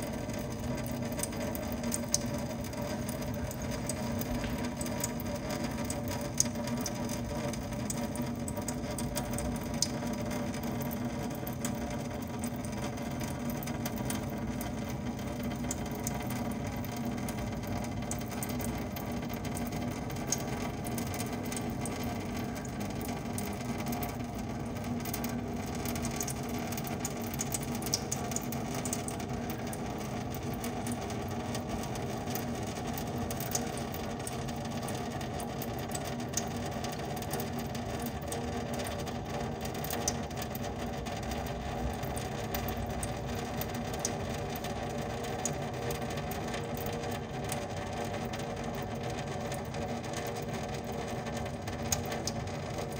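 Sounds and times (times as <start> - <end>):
water trickling into metal sink: 0.0 - 52.9.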